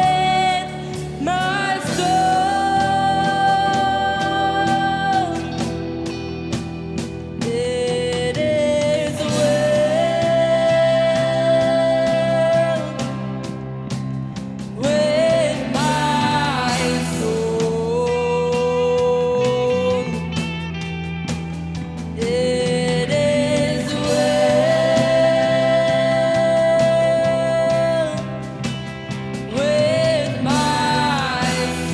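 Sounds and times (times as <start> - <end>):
worship band playing slow song: 0.0 - 31.9.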